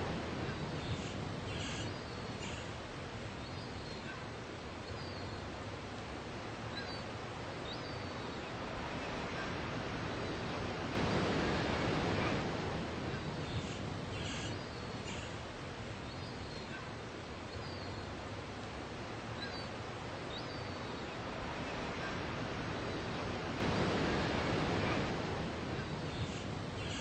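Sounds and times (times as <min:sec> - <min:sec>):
surf washing on sand: 0:00.0 - 0:03.4, 0:05.6 - 0:27.0.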